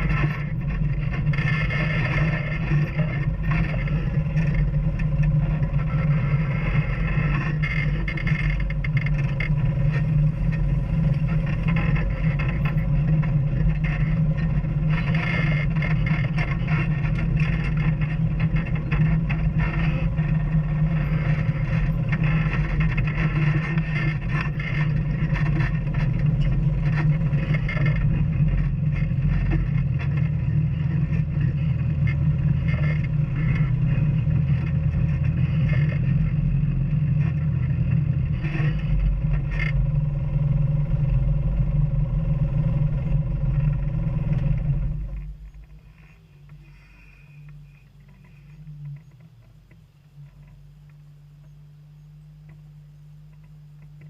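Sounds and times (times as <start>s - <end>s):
vehicle knocks and rattles: 0.0s - 45.8s
off-road vehicle engine running: 0.0s - 54.0s.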